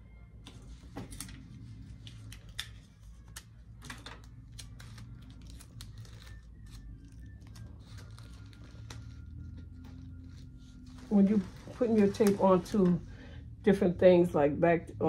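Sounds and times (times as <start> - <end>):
low steady hum: 0.0 - 15.0
wrapping crinkles: 0.7 - 12.8.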